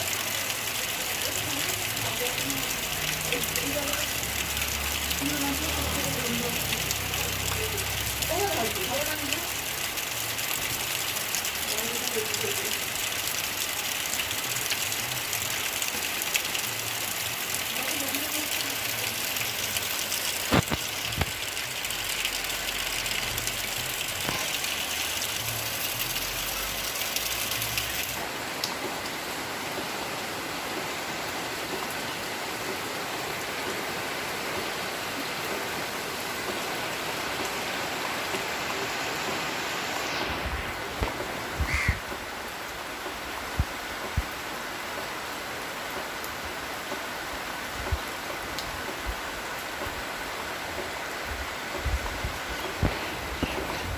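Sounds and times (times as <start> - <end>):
steady rain hissing: 0.0 - 53.9.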